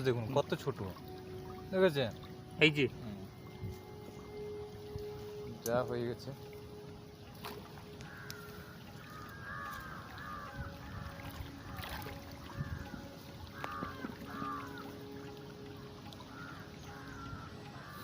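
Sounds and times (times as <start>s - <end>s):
light clicks or splashes: 0.0s - 17.9s
water trickling and flowing: 0.0s - 18.0s.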